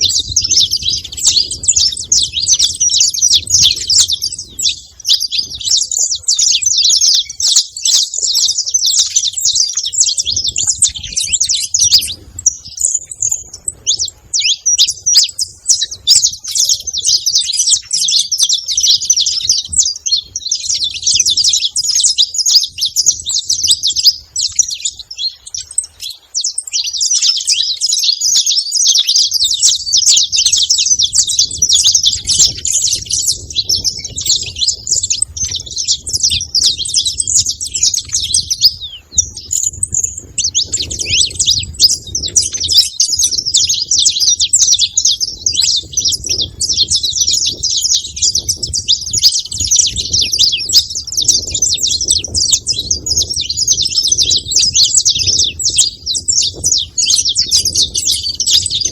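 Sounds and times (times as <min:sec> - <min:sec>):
finch singing scratchy chirps: 0:00.0 - 0:58.9.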